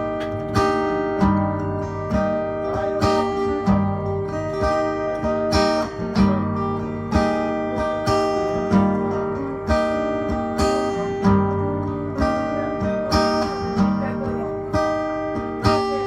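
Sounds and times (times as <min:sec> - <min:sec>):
strummed acoustic guitar music: 0:00.0 - 0:16.0.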